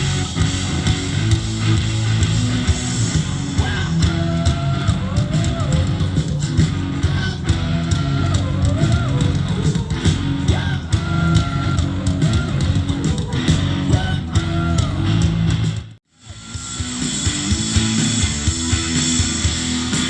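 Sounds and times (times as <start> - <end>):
distorted electric guitars: 0.0 - 20.0.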